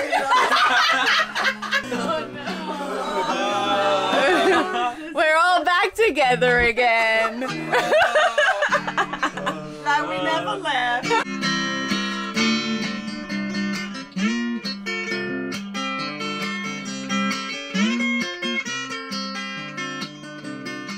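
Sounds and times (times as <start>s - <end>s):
plucked and strummed guitar: 0.0s - 4.8s, 5.7s - 20.9s.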